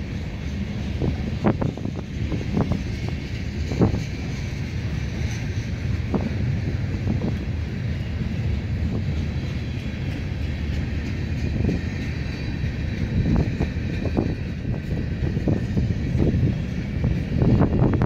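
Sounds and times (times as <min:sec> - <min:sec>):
freight cars rumbling on rails: 0:00.0 - 0:18.0.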